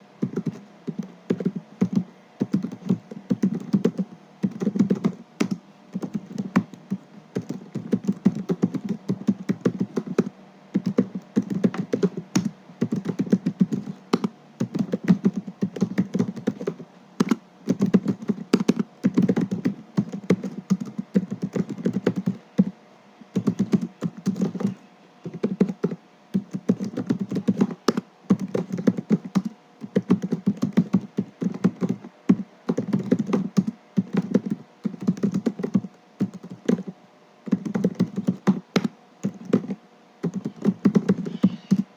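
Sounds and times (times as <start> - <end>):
laptop keyboard typing: 0.2 - 41.9.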